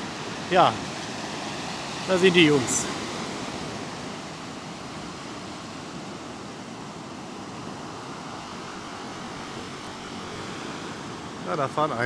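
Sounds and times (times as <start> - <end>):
waves breaking on shore: 0.0 - 12.0.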